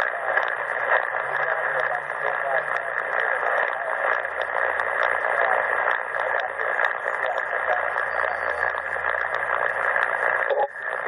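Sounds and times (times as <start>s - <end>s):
radio static and hiss: 0.0s - 11.0s
steady tone in static: 0.0s - 11.0s.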